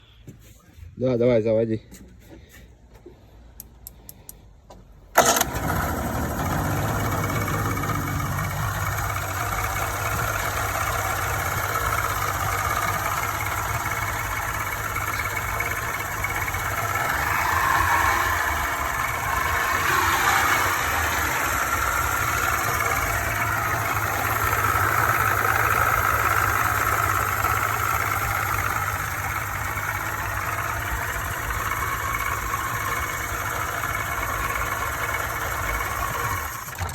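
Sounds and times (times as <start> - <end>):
outboard motor starting and idling: 5.1 - 36.9.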